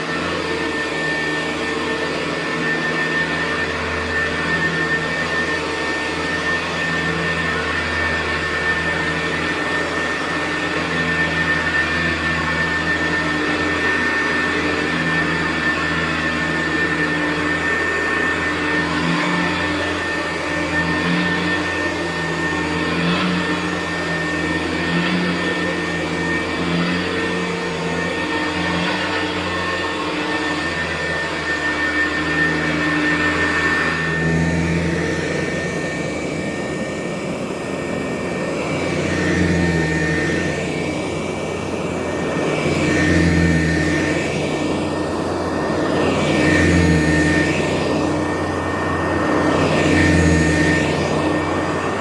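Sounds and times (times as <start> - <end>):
vacuum cleaner running on carpet: 0.0 - 52.0.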